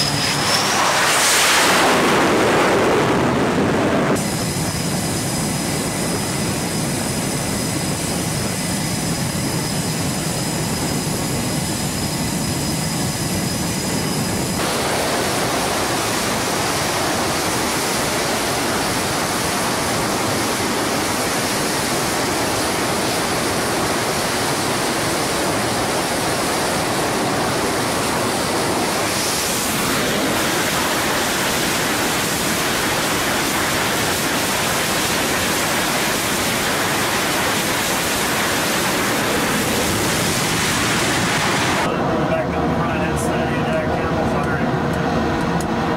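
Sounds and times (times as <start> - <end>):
high jet whine: 0.0 - 45.9
jet engines roaring: 0.0 - 45.9.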